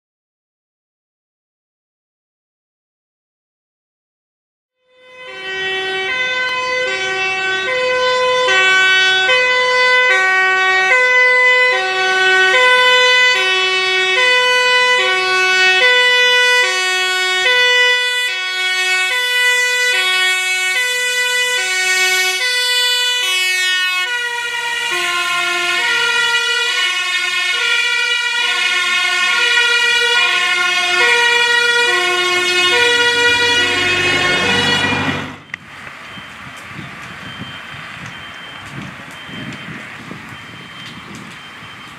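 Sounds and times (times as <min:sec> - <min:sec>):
two-tone fire engine siren: 0:04.8 - 0:41.9
truck engine and tyre noise: 0:04.9 - 0:41.9.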